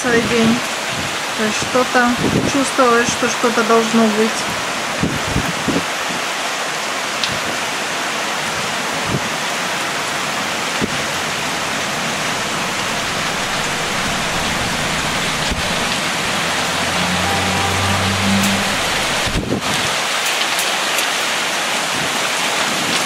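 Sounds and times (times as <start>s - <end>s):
heavy rain pouring: 0.6s - 23.0s.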